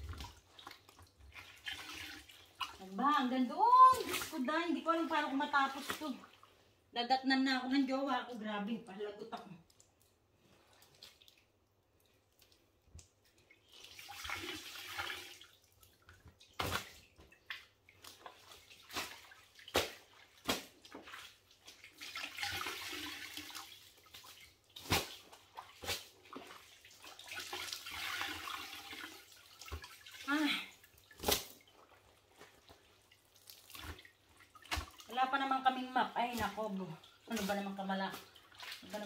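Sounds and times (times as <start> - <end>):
water trickling into bucket: 0.0 - 6.6, 9.6 - 39.0.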